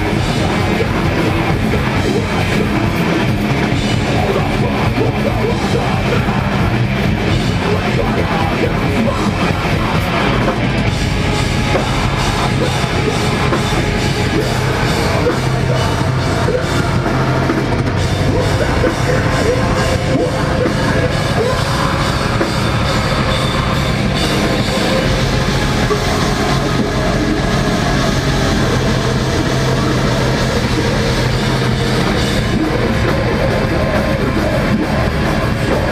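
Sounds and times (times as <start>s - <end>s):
bass guitar: 0.0s - 35.9s
distorted electric guitars: 0.0s - 35.9s
drum kit: 0.0s - 35.9s.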